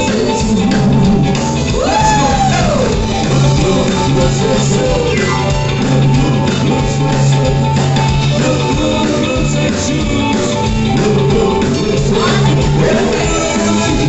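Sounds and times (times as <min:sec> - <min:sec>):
person singing: 0:00.0 - 0:14.0
rock and roll music: 0:00.0 - 0:14.0.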